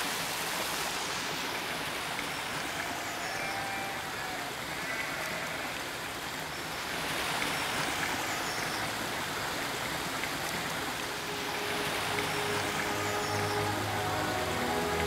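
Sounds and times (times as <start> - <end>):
stream running water: 0.0 - 15.0.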